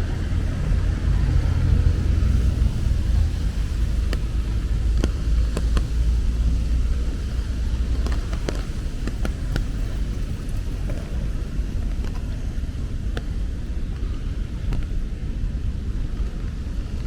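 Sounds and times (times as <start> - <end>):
raindrops ticking: 0.0 - 14.0
low traffic rumble: 0.0 - 17.0.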